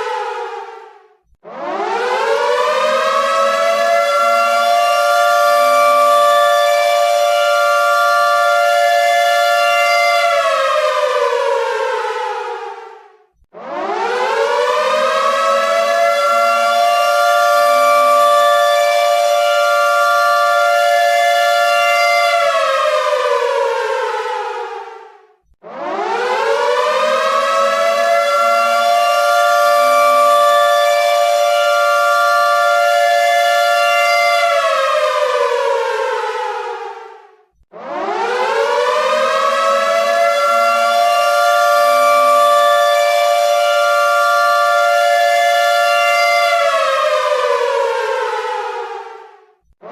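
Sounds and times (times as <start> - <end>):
air raid siren wailing: 0.0 - 13.0, 13.6 - 49.9.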